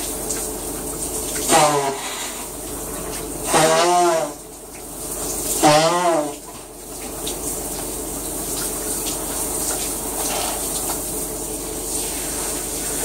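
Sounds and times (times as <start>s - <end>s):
shower running: 0.0s - 13.0s.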